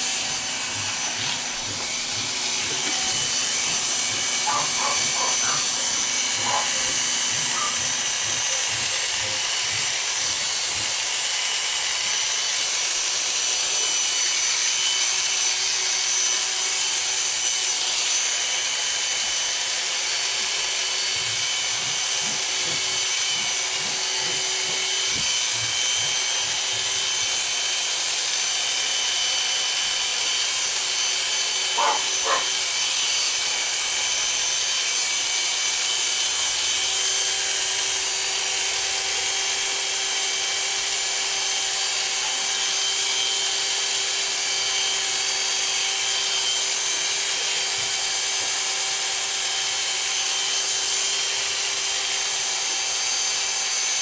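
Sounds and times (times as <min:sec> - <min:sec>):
electric hair clippers humming: 0:00.0 - 0:54.0.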